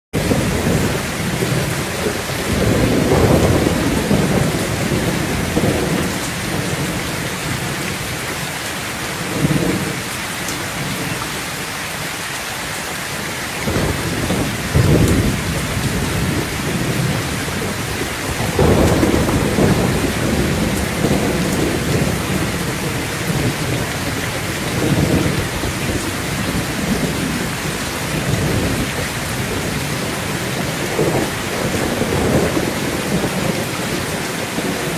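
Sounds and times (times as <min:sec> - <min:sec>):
heavy rain on a metal roof: 0:00.1 - 0:34.9
thunder rumbling: 0:00.2 - 0:08.4, 0:09.2 - 0:10.1, 0:13.6 - 0:34.9.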